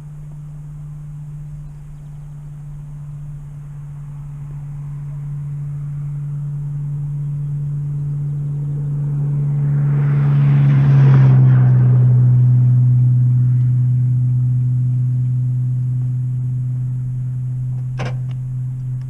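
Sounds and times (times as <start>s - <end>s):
machine low hum: 0.0s - 19.0s.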